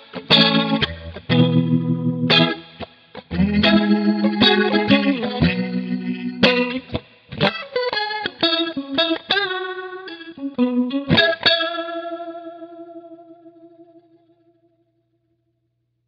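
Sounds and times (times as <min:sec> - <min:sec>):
electric guitar with rotary swirl: 0:00.0 - 0:14.8.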